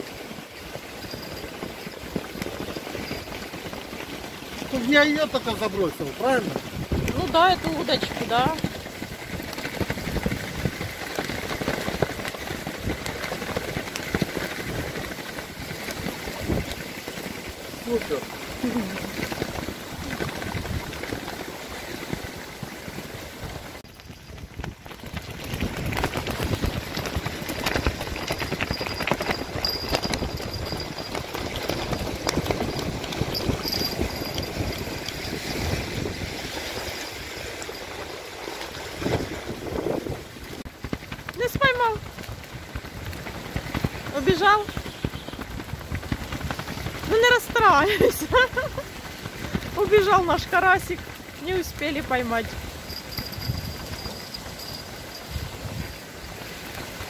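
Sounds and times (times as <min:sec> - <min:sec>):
waves splashing onto shore: 0:00.0 - 0:57.0
wind buffeting microphone: 0:00.0 - 0:57.0.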